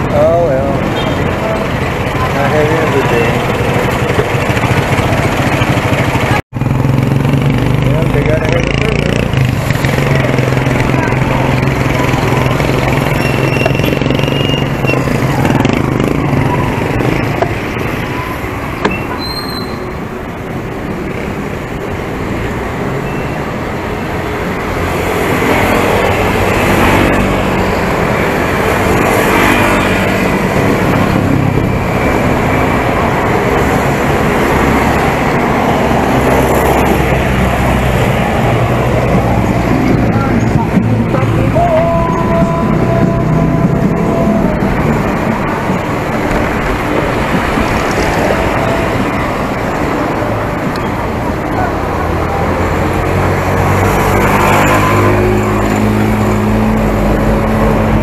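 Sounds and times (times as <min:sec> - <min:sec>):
vehicle engines running: 0:00.0 - 0:58.0.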